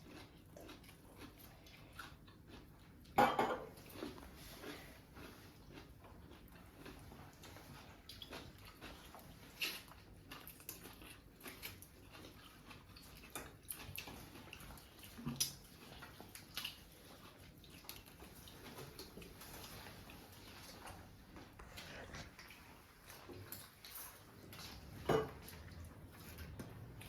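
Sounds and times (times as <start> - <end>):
quiet chewing: 0.0 - 27.0.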